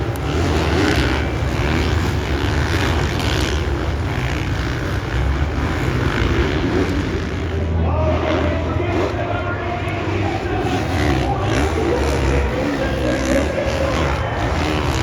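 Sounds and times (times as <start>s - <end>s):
dirt bike engines droning: 0.0s - 15.0s.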